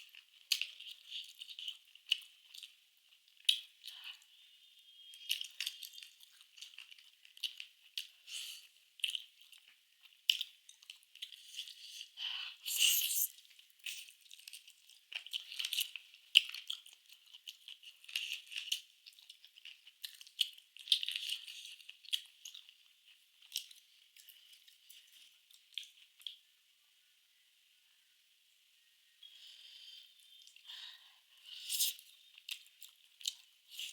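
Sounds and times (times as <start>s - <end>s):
person chewing food: 0.0s - 4.4s, 5.2s - 26.5s, 29.2s - 33.9s.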